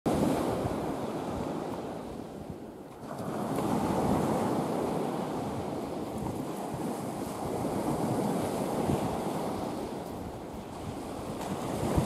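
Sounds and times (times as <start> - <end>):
sea surf washing on sand: 0.1 - 12.0
wind buffeting microphone: 0.1 - 12.0.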